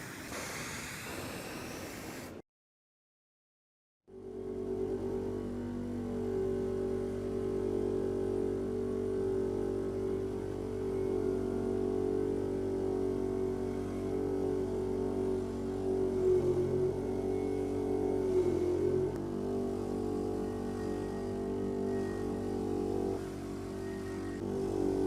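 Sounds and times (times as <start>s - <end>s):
motor humming: 4.2s - 25.0s.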